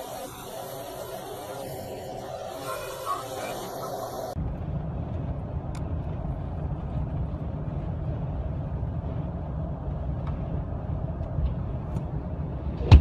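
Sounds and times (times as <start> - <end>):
car engine and tyre rumble: 1.8 - 13.0.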